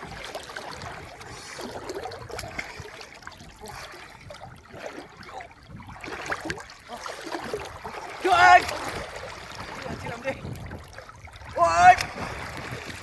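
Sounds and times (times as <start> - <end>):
river water running: 0.0 - 13.0
small knocks and splashes: 0.0 - 13.0.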